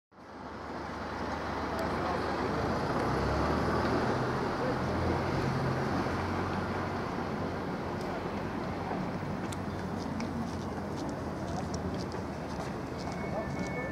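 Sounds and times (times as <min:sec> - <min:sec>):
traffic and engine rumble: 0:00.2 - 0:13.9.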